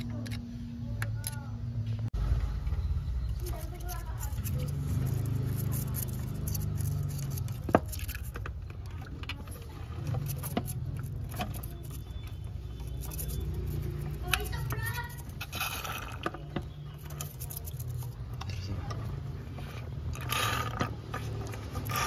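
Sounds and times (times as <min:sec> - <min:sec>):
metal tools clicking and scraping: 0:00.0 - 0:01.5, 0:03.4 - 0:22.0.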